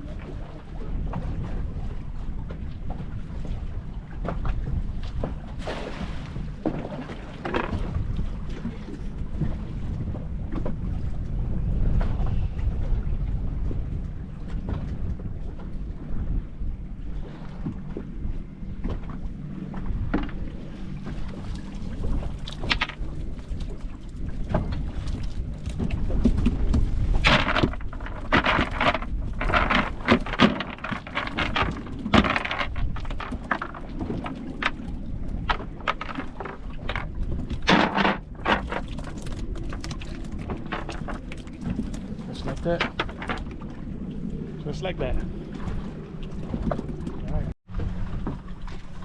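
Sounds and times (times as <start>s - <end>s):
water splashing around boat: 0.0s - 49.0s
wind: 0.0s - 49.0s.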